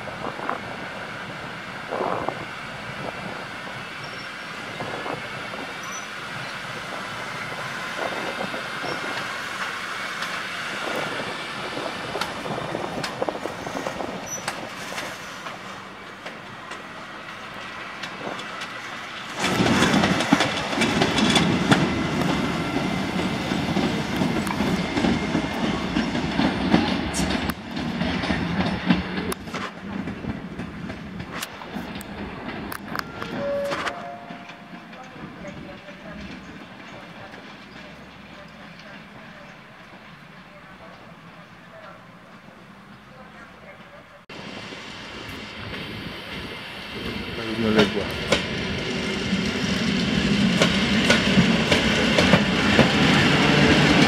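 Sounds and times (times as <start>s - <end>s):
rail rumble: 0.0s - 54.0s
wheels clattering over rail joints: 8.0s - 44.0s, 46.4s - 54.0s.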